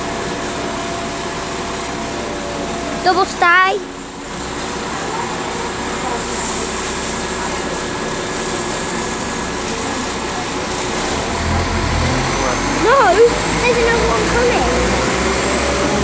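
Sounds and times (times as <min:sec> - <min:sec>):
diesel train engine drone: 0:00.0 - 0:16.0.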